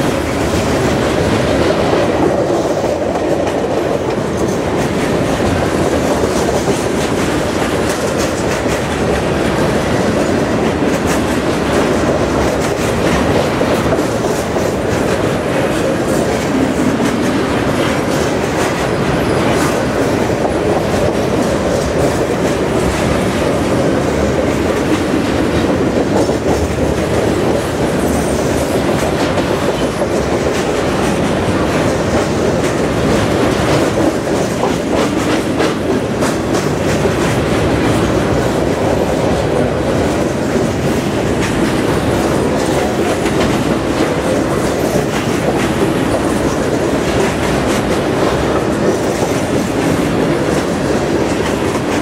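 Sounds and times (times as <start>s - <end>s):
freight train rumbling past: 0.0s - 52.0s
wheels clacking over rail joints: 0.0s - 52.0s.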